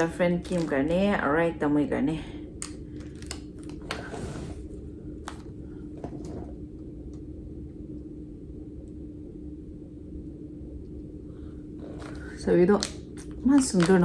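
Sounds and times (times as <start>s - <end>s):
room hum with held tone: 0.0s - 14.0s.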